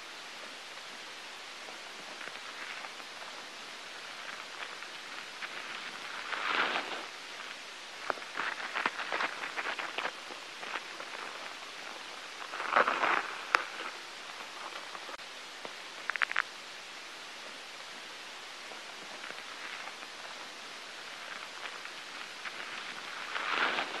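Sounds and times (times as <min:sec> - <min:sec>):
rustling: 0:00.0 - 0:16.6, 0:17.3 - 0:24.0
steady hiss: 0:00.0 - 0:24.0.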